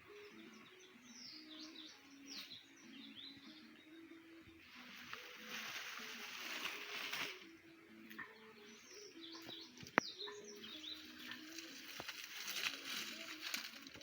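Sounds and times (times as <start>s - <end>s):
birds chirping: 0.0s - 14.0s
rural outdoor background noise: 0.0s - 14.0s.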